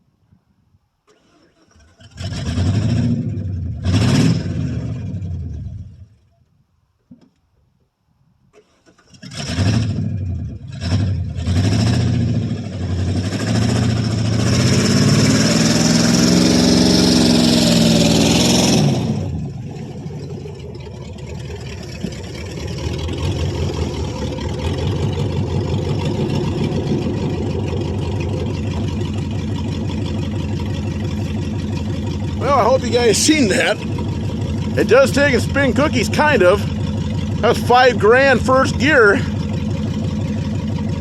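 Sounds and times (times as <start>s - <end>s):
truck engine revving: 1.8s - 6.0s, 9.2s - 41.0s.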